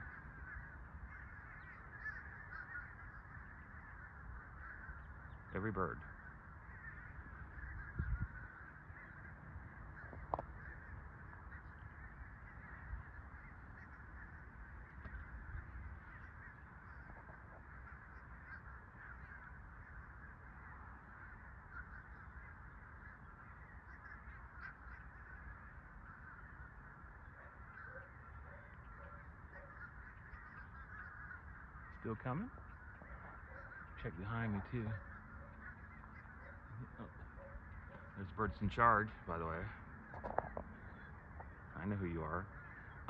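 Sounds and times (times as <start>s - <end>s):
flock of birds calling: 0.0s - 43.0s
short bird calls: 0.0s - 43.0s.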